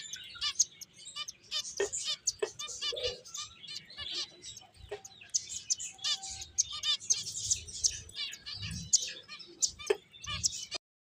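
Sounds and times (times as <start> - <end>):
finches chirping: 0.0 - 10.8.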